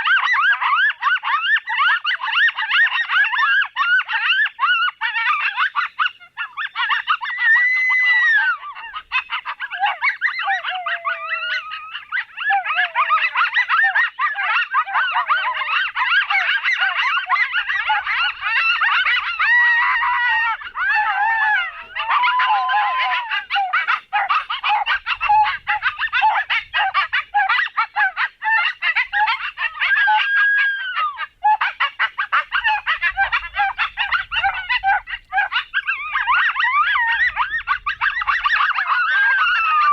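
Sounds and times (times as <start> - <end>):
coyotes yipping and howling: 0.0 - 39.9.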